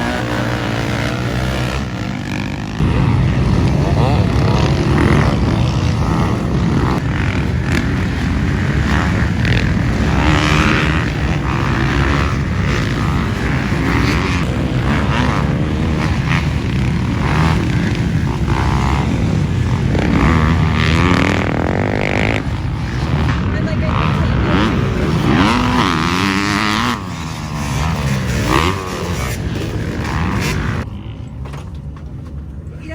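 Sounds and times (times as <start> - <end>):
dirt bike engines droning: 0.0 - 32.9.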